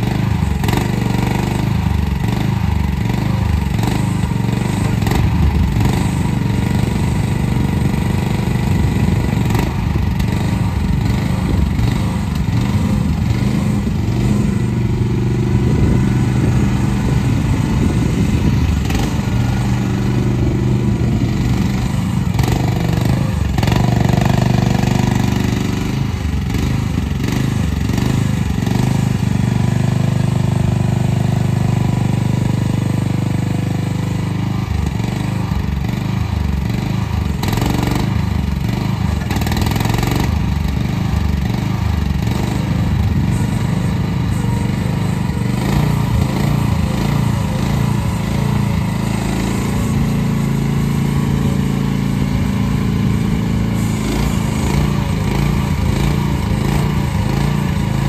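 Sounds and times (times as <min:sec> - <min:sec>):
small excavator engine running: 0:00.0 - 0:58.0.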